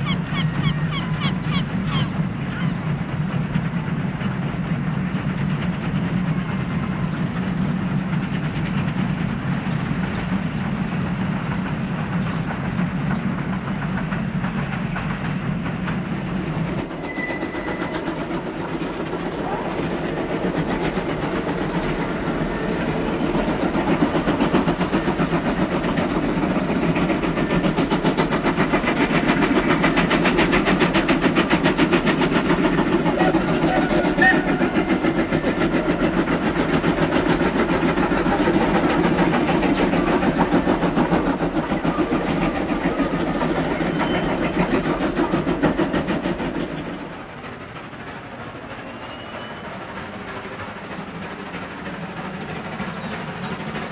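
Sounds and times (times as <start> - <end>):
steam locomotive exhaust beats: 0.0 - 53.9.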